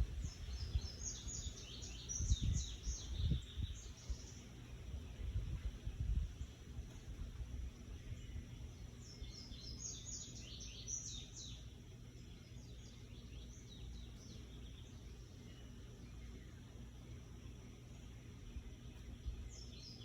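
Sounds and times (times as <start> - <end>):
bird chirping: 0.0 - 20.0
low background rumble: 0.0 - 20.0.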